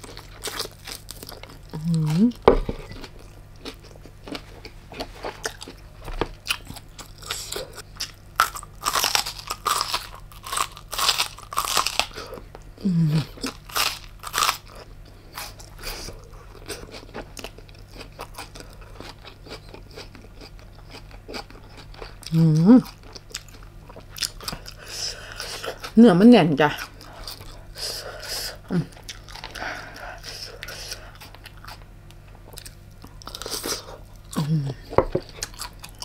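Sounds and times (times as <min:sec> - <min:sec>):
crunchy chewing: 0:00.0 - 0:26.0, 0:26.8 - 0:34.6, 0:35.2 - 0:36.0.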